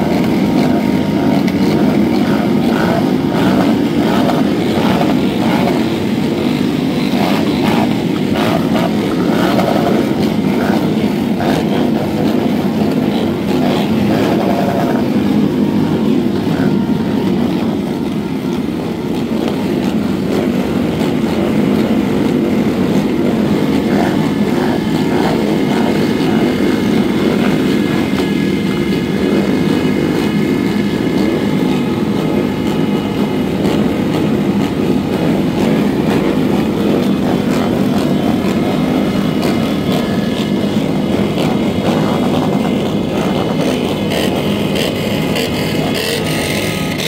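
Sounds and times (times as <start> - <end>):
motorcycle engines idling: 0.0 - 47.0.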